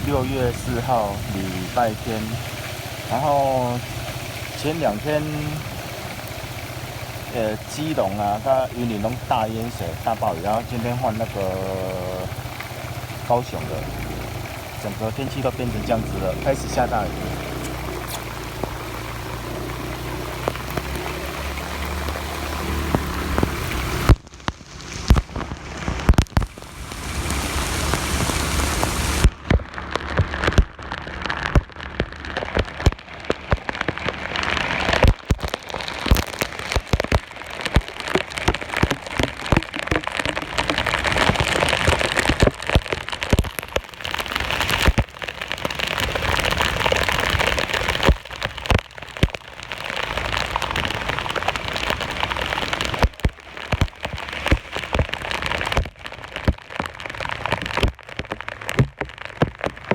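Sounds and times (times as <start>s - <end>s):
close raindrop hits: 0.0s - 59.9s
heavy rain pouring: 0.0s - 59.9s.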